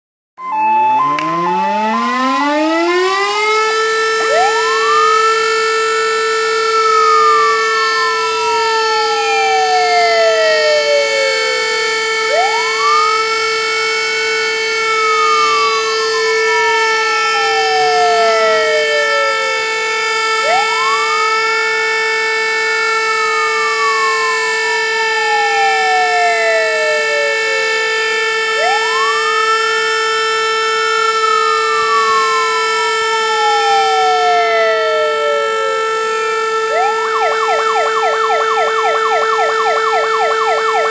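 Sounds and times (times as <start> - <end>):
rising and falling siren: 0.4 - 40.9
siren steady tone: 0.4 - 40.9.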